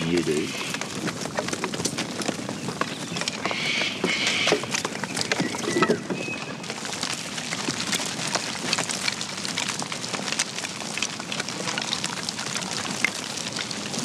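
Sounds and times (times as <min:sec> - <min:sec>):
sheep hooves on dry ground: 0:00.0 - 0:14.0.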